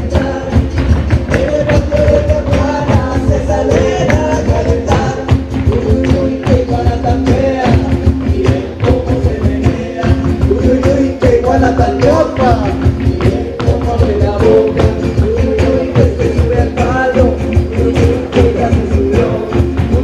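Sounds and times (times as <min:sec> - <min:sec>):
live band playing: 0:00.0 - 0:20.0
percussion beat: 0:00.0 - 0:20.0
person singing: 0:00.0 - 0:20.0.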